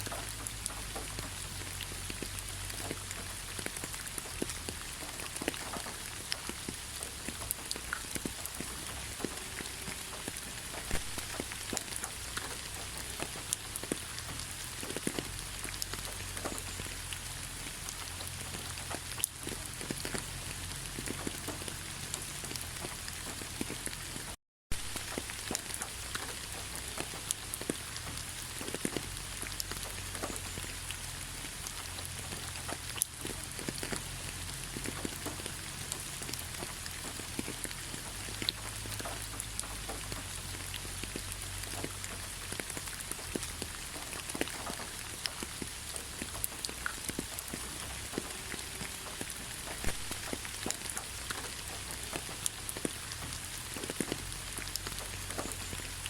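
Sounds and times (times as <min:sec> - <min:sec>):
raindrops ticking nearby: 0:00.0 - 0:56.0
steady rain falling: 0:00.0 - 0:56.0.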